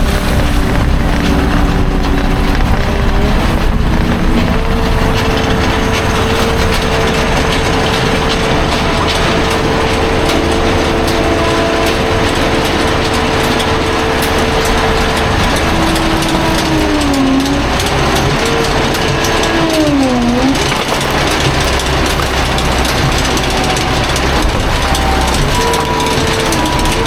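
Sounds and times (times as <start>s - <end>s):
skid steer engine drone: 0.0s - 27.0s.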